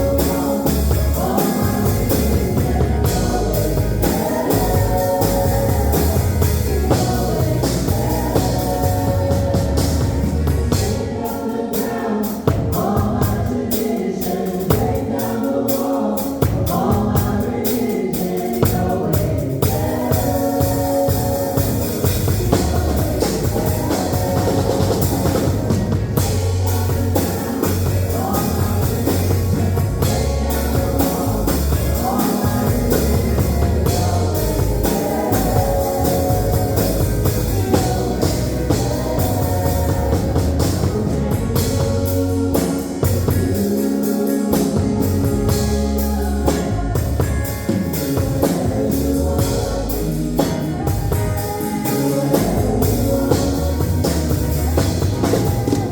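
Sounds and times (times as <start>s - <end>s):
bass guitar: 0.0s - 11.2s, 16.4s - 55.9s
drum kit: 0.0s - 55.9s
guitar: 0.0s - 55.9s
person singing: 0.0s - 55.9s.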